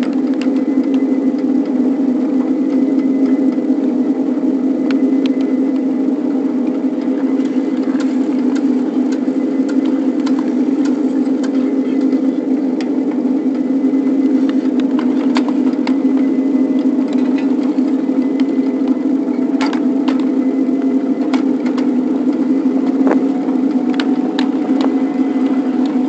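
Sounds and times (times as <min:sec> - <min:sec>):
miniature locomotive droning: 0:00.0 - 0:26.0.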